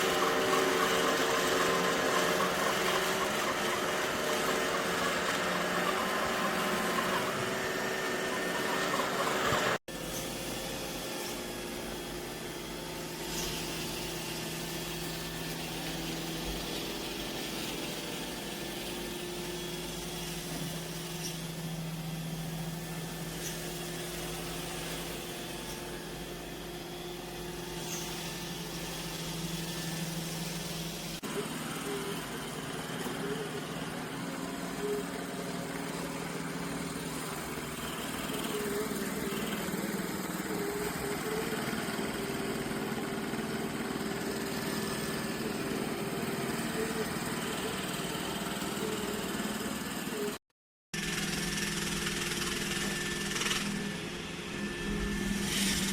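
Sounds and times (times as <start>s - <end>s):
robot vacuum motor hum: 0.0s - 50.4s.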